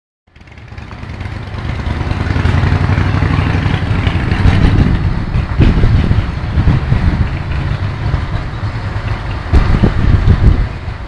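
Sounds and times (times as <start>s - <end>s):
diesel engine rumbling: 0.3s - 11.0s.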